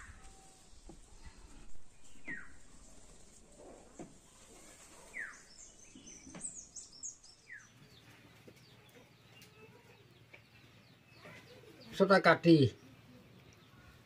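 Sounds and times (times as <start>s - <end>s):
birds chirping and twittering: 0.0s - 14.0s
faint outdoor background noise: 0.0s - 14.0s.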